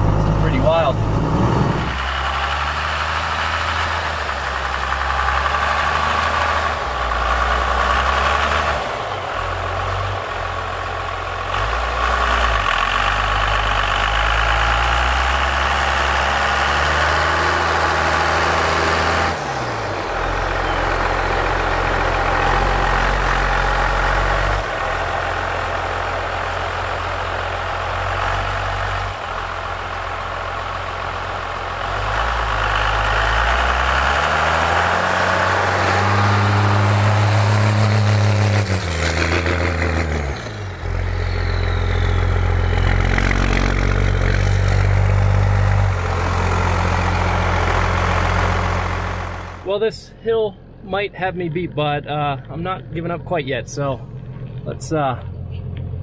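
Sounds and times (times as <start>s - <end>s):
diesel truck engine: 0.0s - 56.0s.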